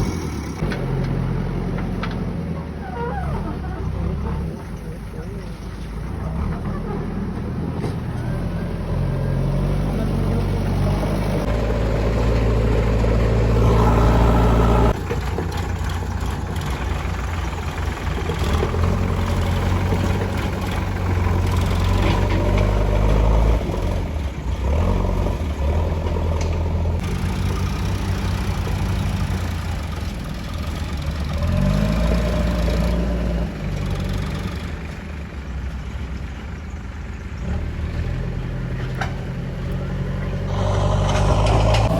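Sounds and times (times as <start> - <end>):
heavy diesel engines revving: 0.0 - 41.9.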